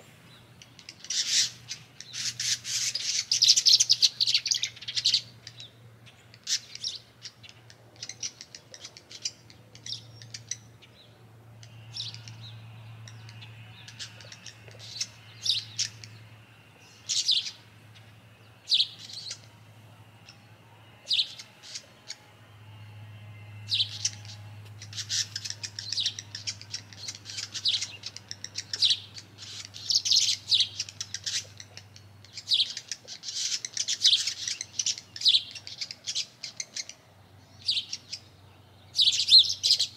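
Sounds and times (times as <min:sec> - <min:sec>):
low steady hum: 0:00.0 - 0:39.9
small songbirds chirping: 0:00.0 - 0:39.9.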